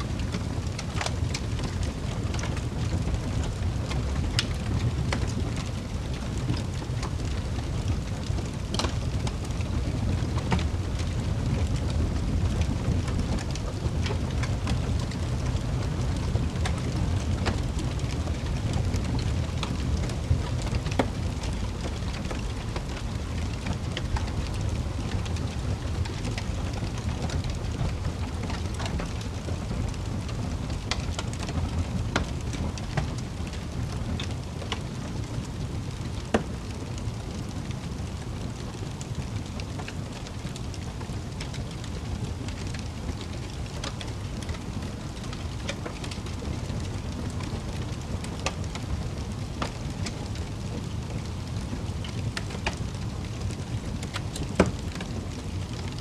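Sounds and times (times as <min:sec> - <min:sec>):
fire popping and snapping: 0:00.0 - 0:56.0
low rumble of flames: 0:00.0 - 0:56.0.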